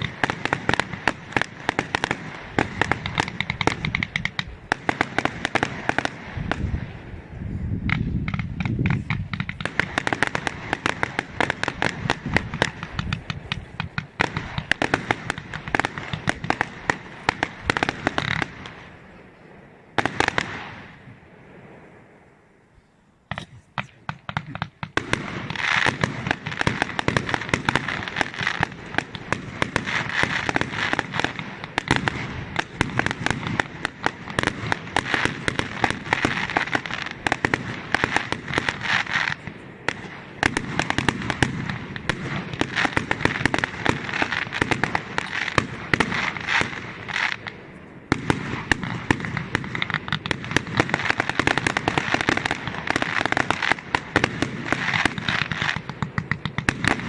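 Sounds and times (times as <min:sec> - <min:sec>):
fireworks cracking and popping: 0:00.0 - 0:19.0, 0:19.9 - 0:21.2, 0:23.3 - 0:57.0.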